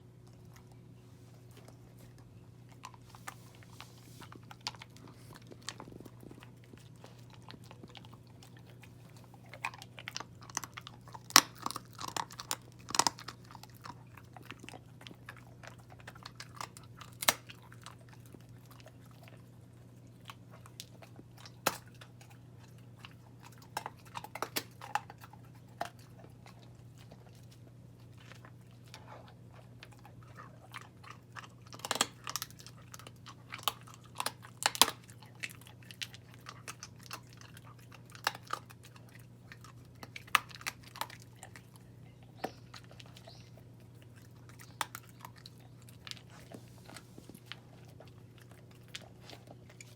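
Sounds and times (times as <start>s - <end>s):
puppy chewing crunchy food: 0.0s - 49.9s.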